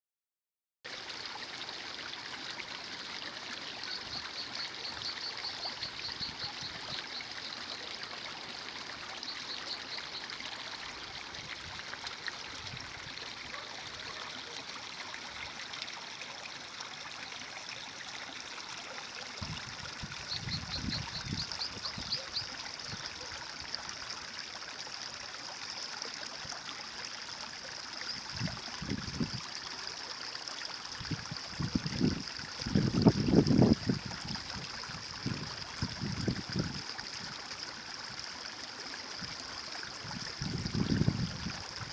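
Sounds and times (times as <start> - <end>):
stream running: 0.9 - 41.9.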